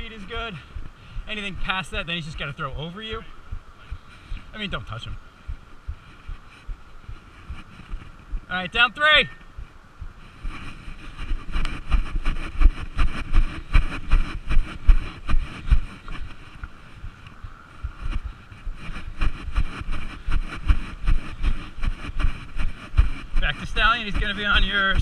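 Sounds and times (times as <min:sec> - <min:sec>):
wind buffeting microphone: 0:00.0 - 0:08.8, 0:09.4 - 0:25.0.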